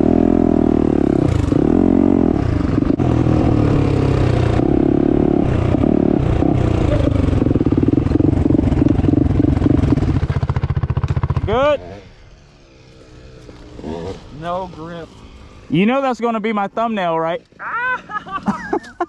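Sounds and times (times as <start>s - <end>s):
dirt bike engine revving: 0.0s - 17.6s.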